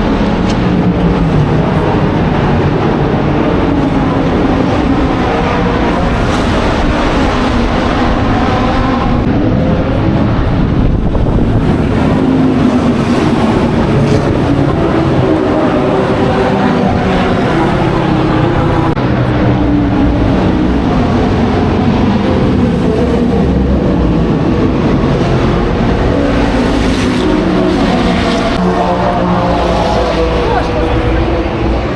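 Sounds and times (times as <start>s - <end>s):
racing car engines: 0.0s - 31.9s.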